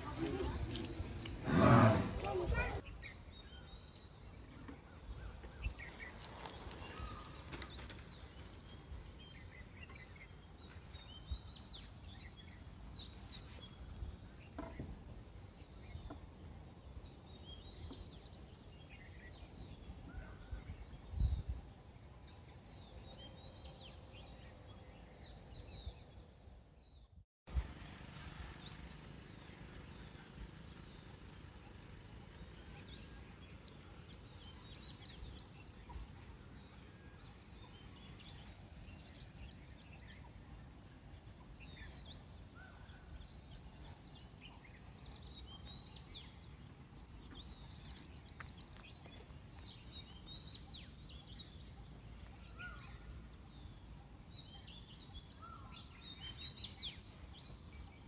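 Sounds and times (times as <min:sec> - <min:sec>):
birds chirping: 0:00.0 - 0:27.2, 0:27.8 - 0:58.0.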